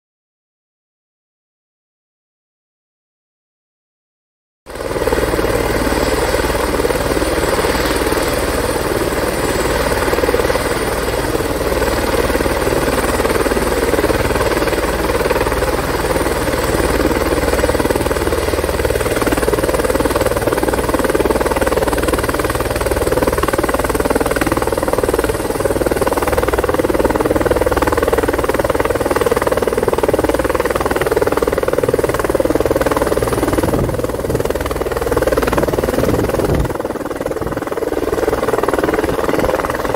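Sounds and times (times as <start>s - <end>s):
helicopter engine and rotor running: 4.7s - 39.9s.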